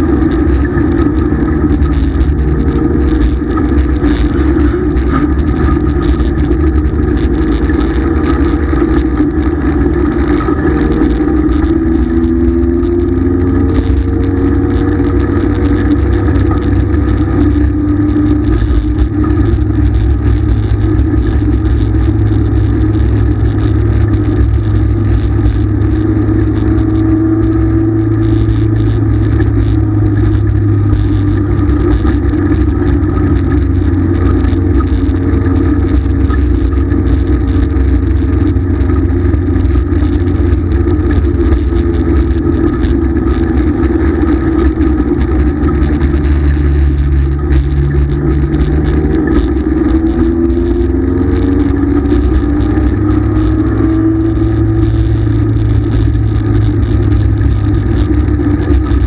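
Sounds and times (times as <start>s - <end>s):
race car engine running hard: 0.0s - 59.0s.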